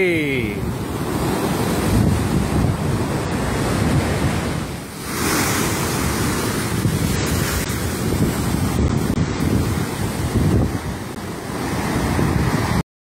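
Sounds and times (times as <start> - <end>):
storm waves crashing: 0.0 - 12.8
wind buffeting microphone: 0.6 - 12.8.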